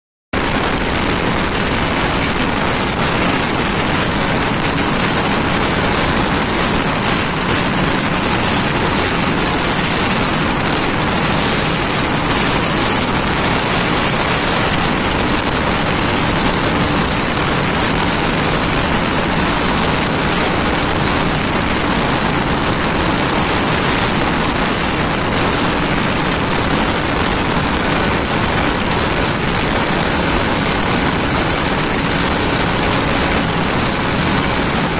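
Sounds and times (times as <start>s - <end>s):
motorcycle engine: 0.4s - 34.9s
wind rushing over microphone: 0.4s - 34.9s.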